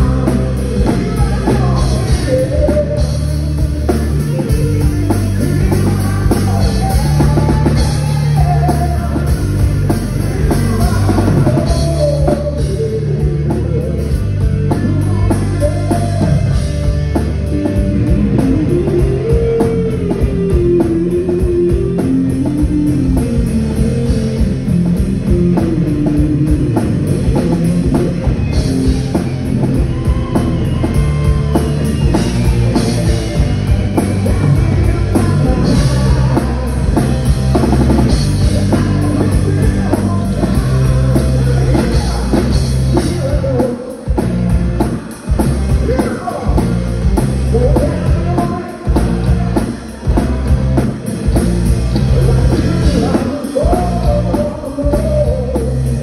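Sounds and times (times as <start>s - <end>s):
bass guitar: 0.0s - 56.0s
drum kit: 0.0s - 56.0s
electric guitar lead line: 0.0s - 56.0s.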